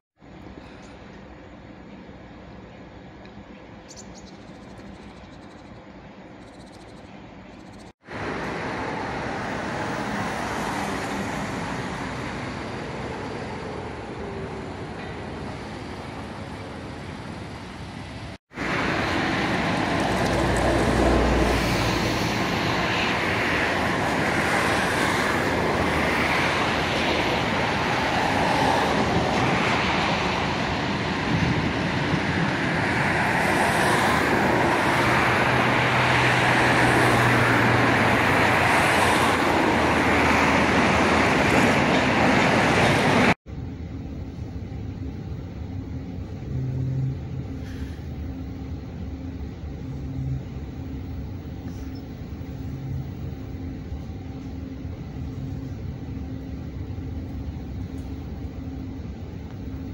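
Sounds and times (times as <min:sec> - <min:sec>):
city road traffic: 0:00.1 - 0:59.9.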